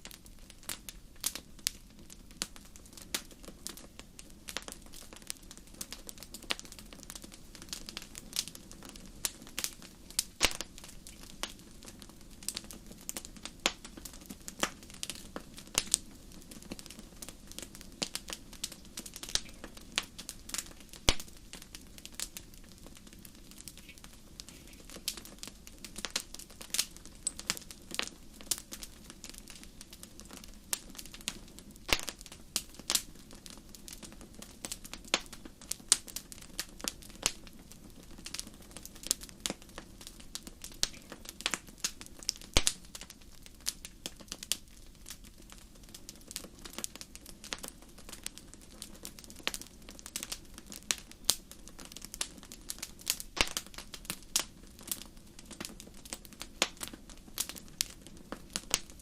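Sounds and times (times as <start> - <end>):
soft rumble of flames: 0.0 - 59.0
wood fire popping and snapping: 0.0 - 59.0.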